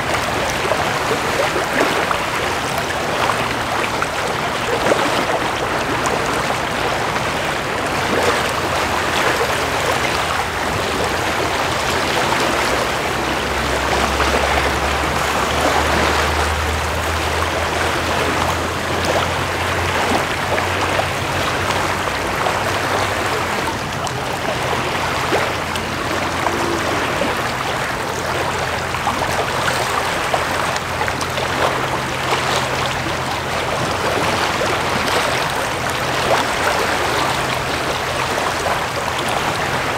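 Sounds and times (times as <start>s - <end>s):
ship engine drone: 0.0s - 39.9s
small waves lapping on shore: 0.0s - 39.9s.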